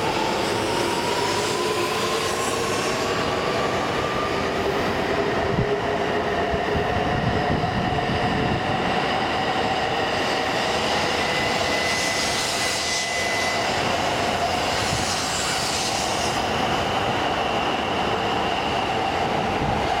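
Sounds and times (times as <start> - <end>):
train wheels on rails: 0.0 - 20.0
train whine: 0.0 - 20.0.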